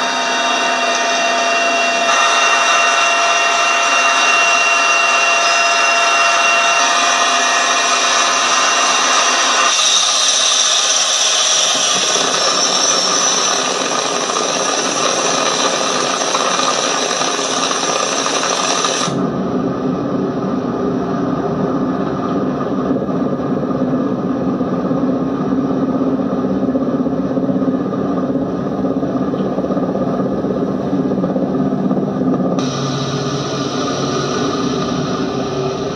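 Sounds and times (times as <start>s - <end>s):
helicopter engine and rotor drone: 0.0s - 35.9s.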